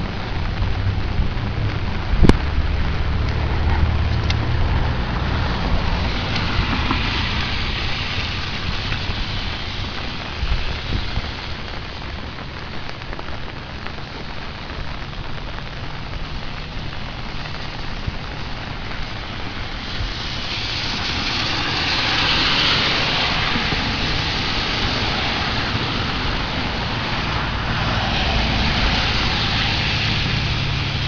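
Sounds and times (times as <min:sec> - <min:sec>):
low rumble: 0:00.0 - 0:31.0
rain hissing on pavement: 0:00.0 - 0:31.0.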